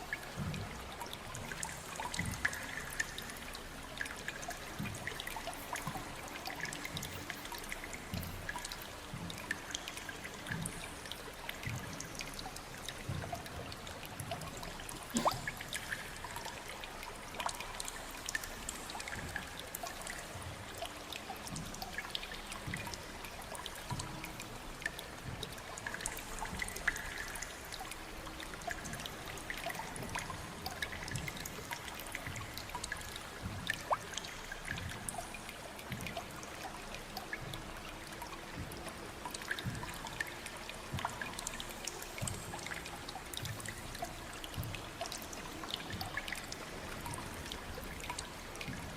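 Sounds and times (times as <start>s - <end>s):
water trickling and dripping: 0.0s - 48.9s.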